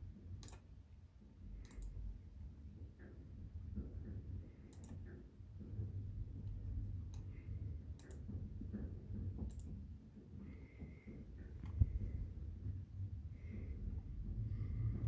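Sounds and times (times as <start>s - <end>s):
low rumble: 1.4s - 9.8s, 10.4s - 15.0s.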